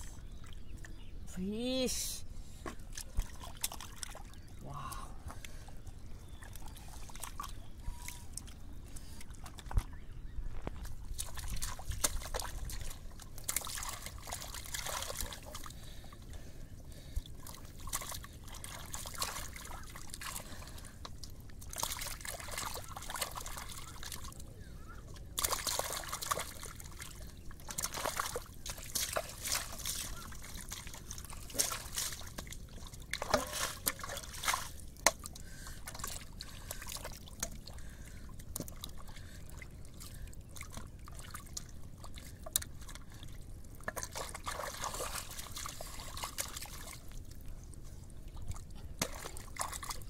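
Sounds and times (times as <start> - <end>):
muddy water sloshing: 0.0 - 50.0.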